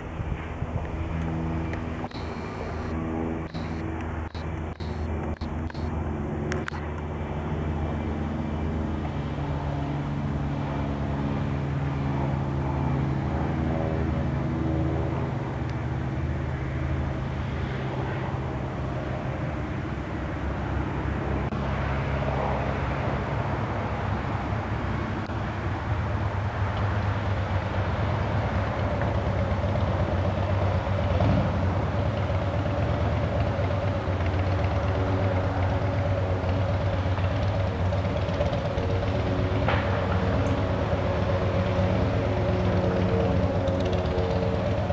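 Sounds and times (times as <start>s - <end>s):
propeller plane engine drone: 0.0s - 44.9s.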